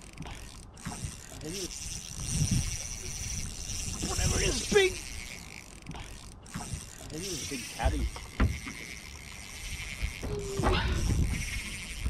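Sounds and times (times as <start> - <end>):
fishing reel whirring rattle: 0.0 - 12.0.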